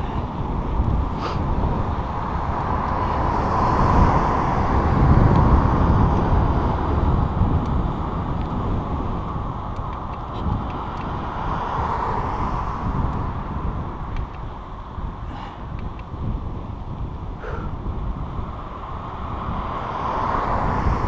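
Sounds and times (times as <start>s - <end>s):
bicycle ticks and rattles: 0.0s - 20.0s
wind buffeting microphone: 0.0s - 21.0s.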